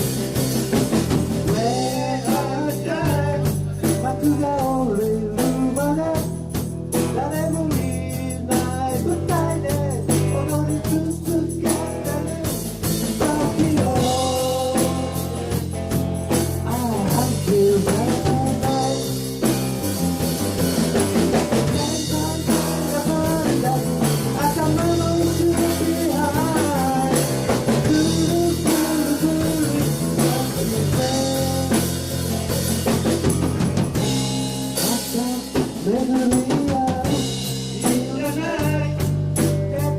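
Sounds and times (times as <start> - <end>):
bass: 0.0 - 39.9
drum kit: 0.0 - 39.9
guitar: 0.0 - 39.9
person singing: 1.4 - 19.6, 21.2 - 33.4, 34.6 - 39.9.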